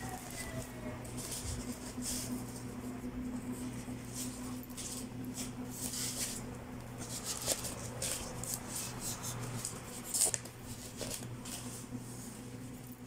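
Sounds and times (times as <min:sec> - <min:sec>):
wrapping paper crinkling: 0:00.0 - 0:03.0, 0:03.7 - 0:12.7
steady low hum: 0:00.0 - 0:13.0.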